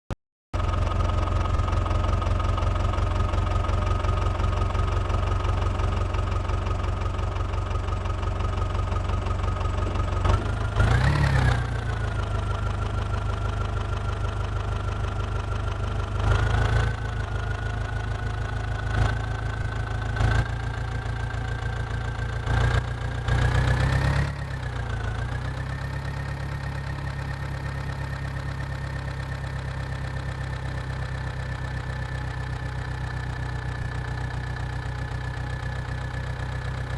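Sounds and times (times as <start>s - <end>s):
tractor diesel engine running: 0.6s - 36.9s.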